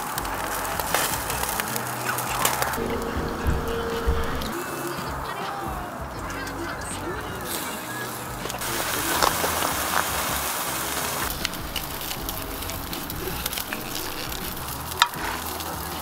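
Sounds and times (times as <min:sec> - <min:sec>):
steak sizzling: 0:00.0 - 0:05.0, 0:07.5 - 0:16.0
crackling wood fire: 0:00.0 - 0:16.0.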